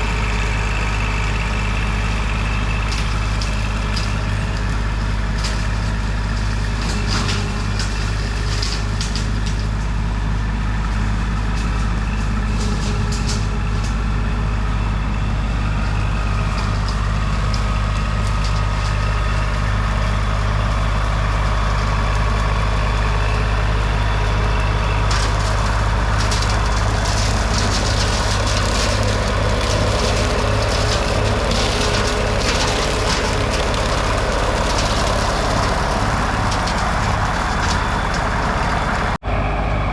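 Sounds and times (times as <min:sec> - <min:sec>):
sharp crackles: 0:00.0 - 0:39.2
tractor diesel engine running: 0:00.0 - 0:39.9.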